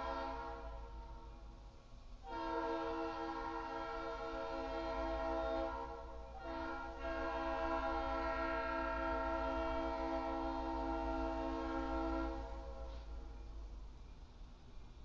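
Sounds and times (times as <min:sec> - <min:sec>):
diesel locomotive air horn: 0:00.0 - 0:01.4, 0:02.2 - 0:13.4.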